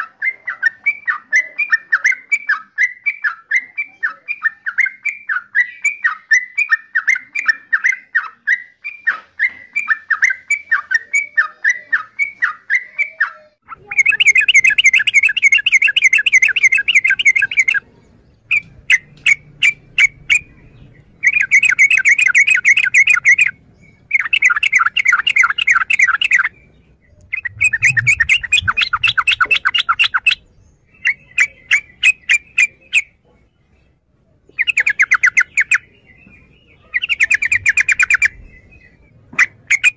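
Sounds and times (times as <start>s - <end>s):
bird chirping: 0.0s - 39.9s
bird chattering: 0.1s - 33.5s, 34.5s - 39.9s.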